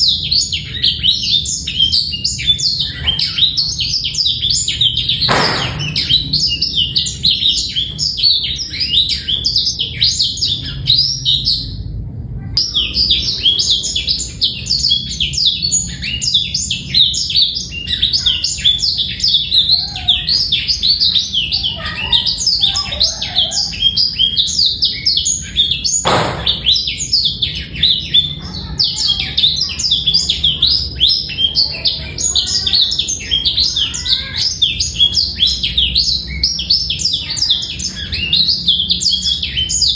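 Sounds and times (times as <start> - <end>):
bird singing twittering song: 0.0 - 11.9, 12.6 - 39.9.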